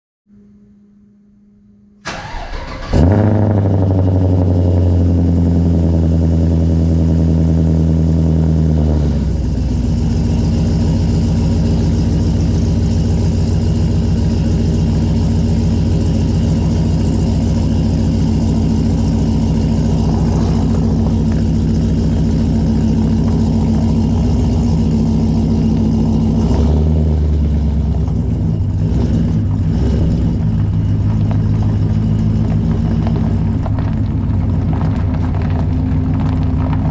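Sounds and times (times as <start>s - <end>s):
truck engine cranking and idling: 2.0s - 36.9s.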